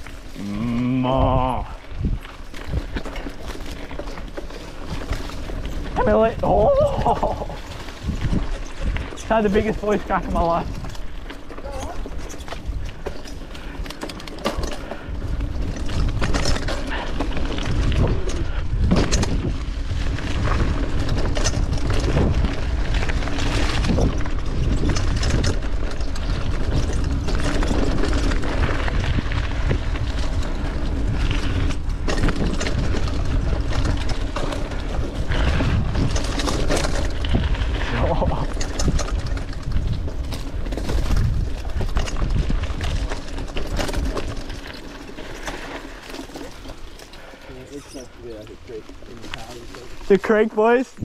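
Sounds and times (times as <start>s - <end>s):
wind rumble on microphone: 0.0s - 46.7s
bike knocking and rattling: 0.0s - 51.0s.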